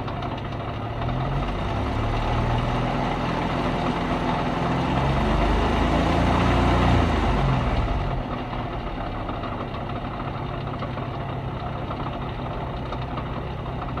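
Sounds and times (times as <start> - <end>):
car engine idling: 0.0 - 6.4, 7.1 - 14.0.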